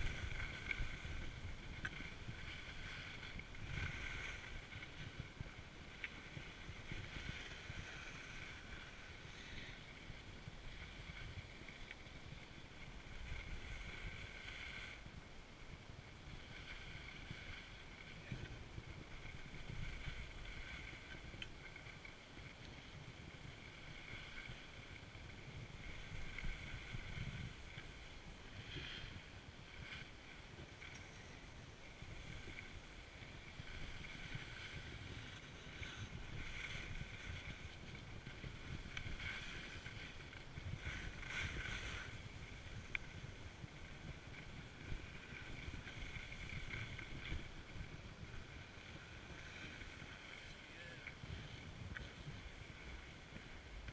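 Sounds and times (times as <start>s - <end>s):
skis sliding over snow: 0.0s - 53.9s
wind rumbling on microphone: 0.0s - 53.9s.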